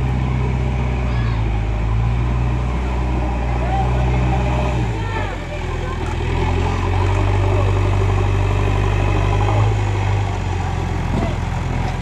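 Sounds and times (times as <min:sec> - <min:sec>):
diesel engine low hum: 0:00.0 - 0:12.0
loader bucket working soil: 0:00.0 - 0:12.0.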